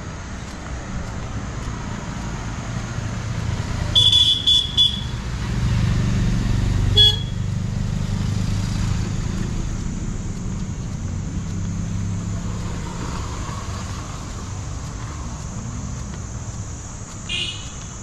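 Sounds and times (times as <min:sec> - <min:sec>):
street noise: 0:00.0 - 0:18.0
vehicle engine running: 0:00.0 - 0:18.0.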